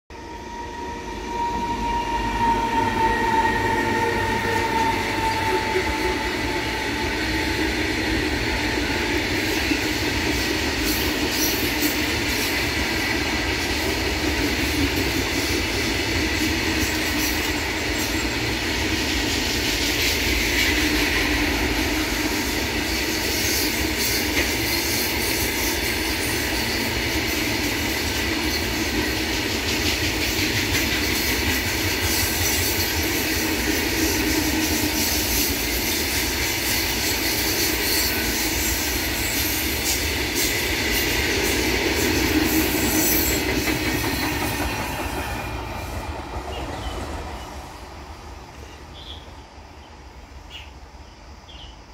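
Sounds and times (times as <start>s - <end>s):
train wheels on rails: 0.1s - 51.9s.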